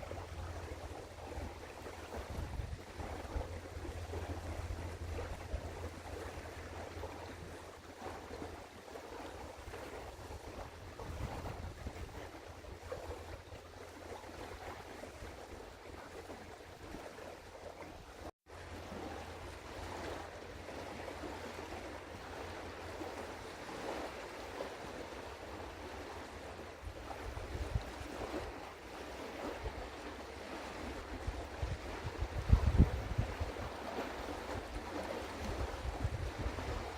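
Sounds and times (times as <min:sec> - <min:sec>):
wind: 0:00.0 - 0:36.9.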